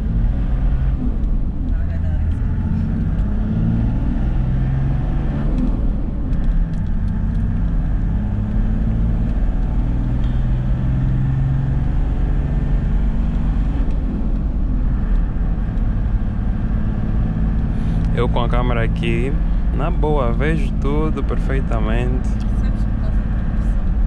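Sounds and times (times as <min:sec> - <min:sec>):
car engine and tyre drone: 0:00.0 - 0:24.0.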